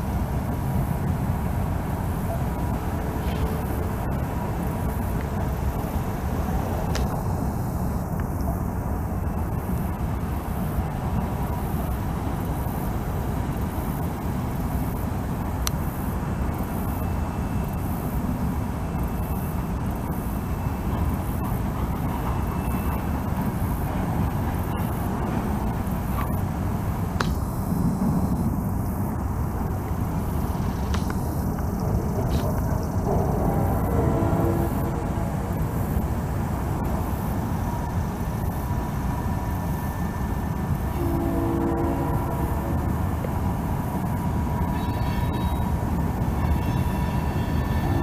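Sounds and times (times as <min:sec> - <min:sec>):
passing train rumble: 0:00.0 - 0:48.0.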